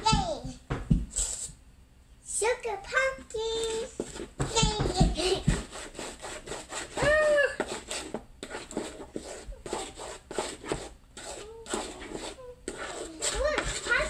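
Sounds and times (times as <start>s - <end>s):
wooden spoon stirring batter: 0.0s - 1.7s, 2.7s - 14.0s.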